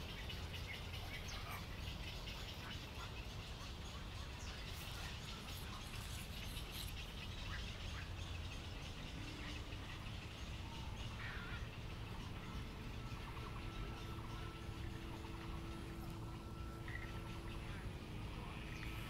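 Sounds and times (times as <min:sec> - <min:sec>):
birds chirping: 0:00.0 - 0:19.0
low background rumble: 0:00.0 - 0:19.0
thin steady tone: 0:00.0 - 0:19.0.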